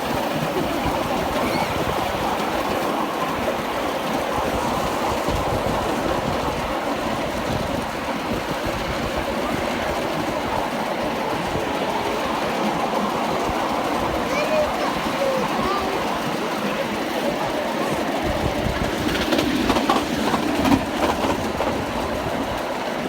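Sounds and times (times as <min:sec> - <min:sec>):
train wheels rattling on rails: 0:00.0 - 0:23.0.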